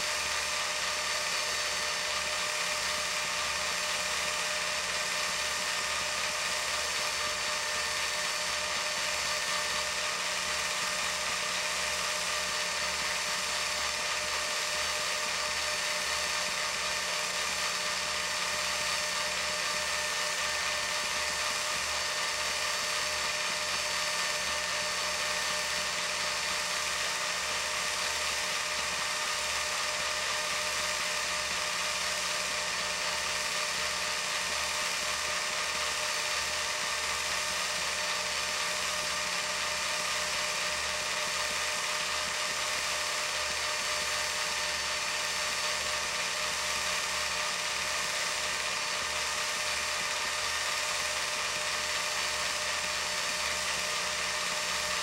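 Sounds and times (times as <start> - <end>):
film projector running: 0.0 - 55.0.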